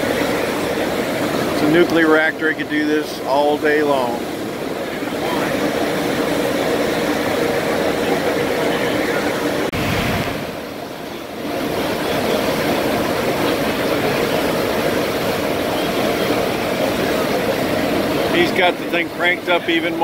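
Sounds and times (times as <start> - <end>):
rush of foaming water: 0.0 - 20.0
ship machinery hum: 0.0 - 20.0.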